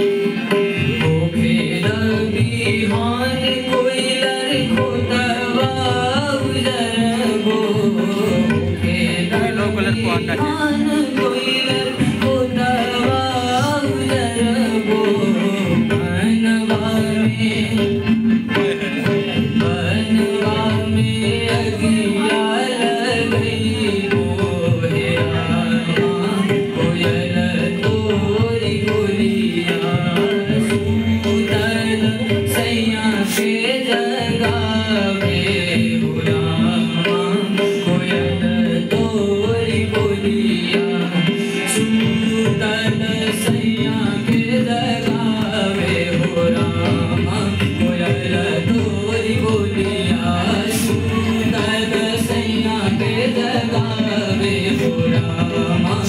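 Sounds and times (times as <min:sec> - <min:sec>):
harmonium drone: 0:00.0 - 0:56.0
tabla drumming: 0:00.0 - 0:56.0.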